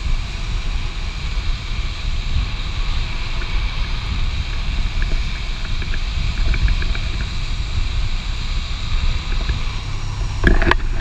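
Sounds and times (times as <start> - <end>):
longboard wheels rolling on asphalt: 0.0 - 11.0
wind buffeting microphone: 0.0 - 11.0.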